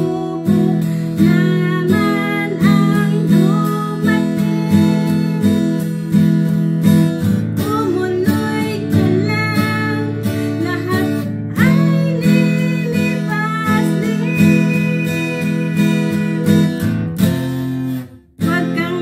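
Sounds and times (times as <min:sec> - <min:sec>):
person singing: 0:00.0 - 0:06.2, 0:07.6 - 0:17.1, 0:18.4 - 0:19.0
acoustic guitar strummed: 0:00.0 - 0:19.0.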